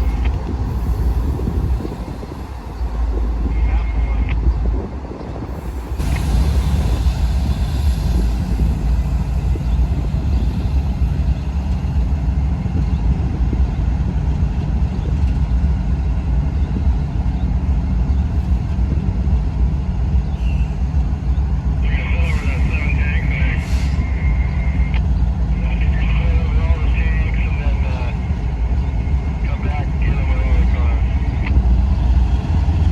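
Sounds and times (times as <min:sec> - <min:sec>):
diesel locomotive rumbling: 0:00.0 - 0:32.9.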